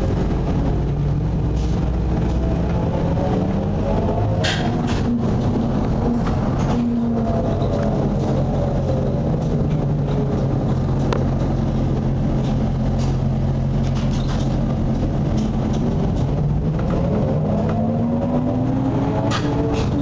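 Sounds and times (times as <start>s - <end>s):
road and body rattle: 0.0s - 20.0s.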